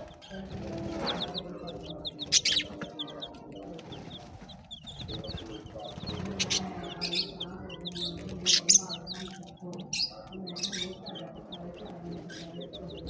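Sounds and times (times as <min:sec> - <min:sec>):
parrots chirping and chattering: 0:00.0 - 0:13.0.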